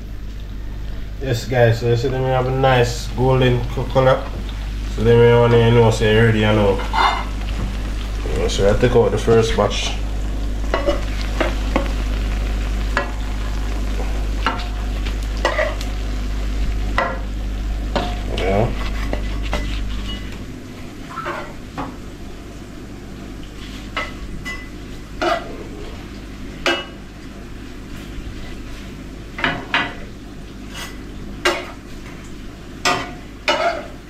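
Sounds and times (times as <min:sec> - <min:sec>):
food sizzling in hot oil: 0:00.1 - 0:34.0.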